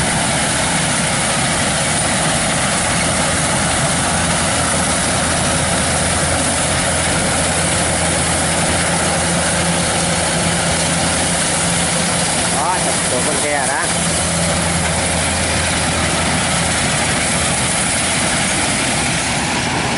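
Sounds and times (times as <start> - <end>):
combine harvester droning: 0.0 - 19.9.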